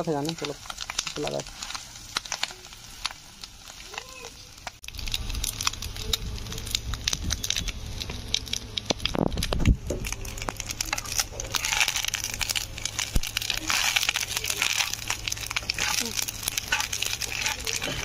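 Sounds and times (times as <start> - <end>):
fish roe sizzling in a pan: 0.0 - 18.0.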